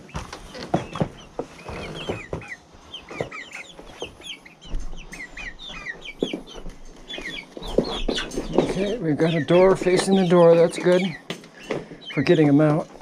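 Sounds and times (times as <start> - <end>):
chickens chirping and peeping: 0.0 - 13.0.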